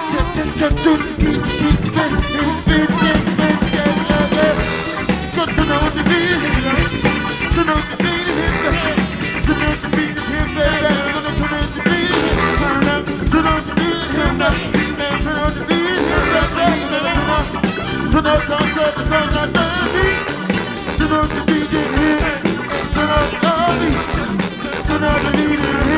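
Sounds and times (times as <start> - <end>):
guitar: 0.0 - 25.9
live band playing: 0.0 - 25.9
steady drum beat: 0.0 - 25.9.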